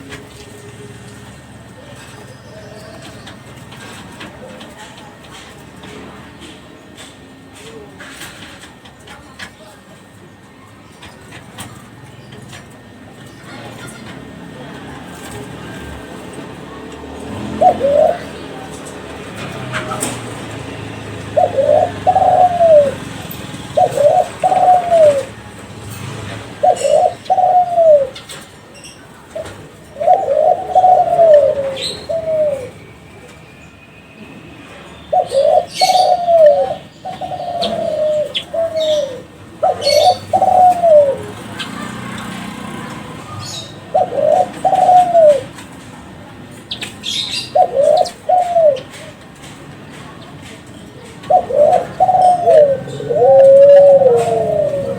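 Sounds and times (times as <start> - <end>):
dove cooing: 0.0 - 33.4, 34.4 - 54.9
small birds chirping: 0.0 - 54.9.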